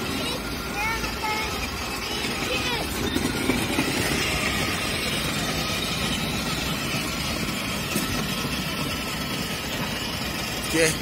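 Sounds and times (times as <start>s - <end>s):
small electric motors: 0.0s - 11.0s
toy car wheels rumbling on paving: 0.0s - 11.0s.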